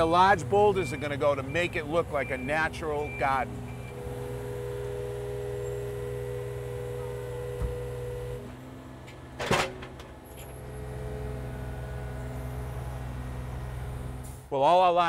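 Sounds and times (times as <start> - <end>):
diesel engine running: 0.0 - 14.8.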